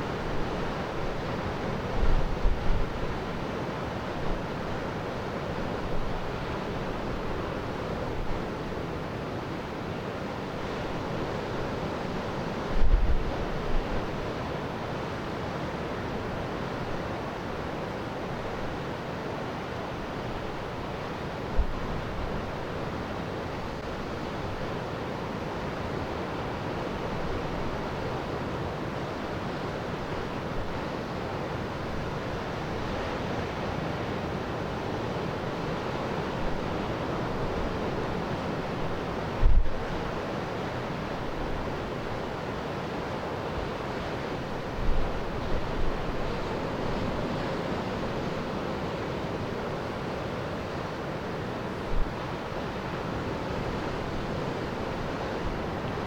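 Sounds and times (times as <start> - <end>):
surf washing: 0.0 - 56.0.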